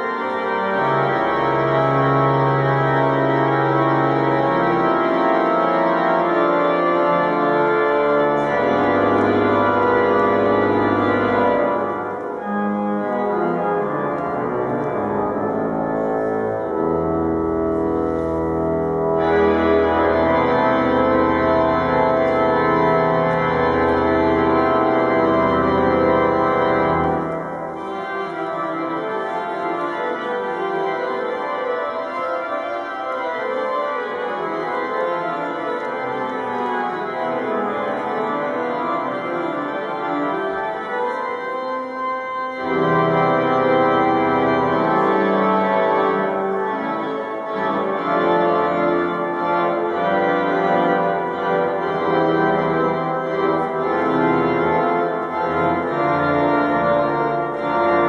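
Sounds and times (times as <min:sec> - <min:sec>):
organ pedal bass notes: 0:00.0 - 0:58.0
pipe organ chords: 0:00.0 - 0:58.0.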